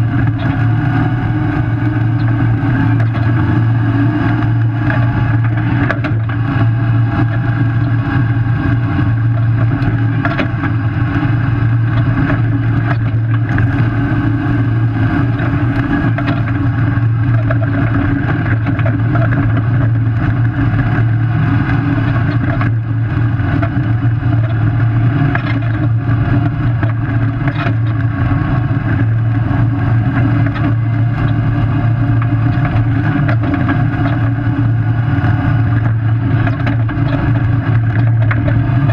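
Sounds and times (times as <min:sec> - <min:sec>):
tyres and drivetrain drone: 0:00.0 - 0:38.9.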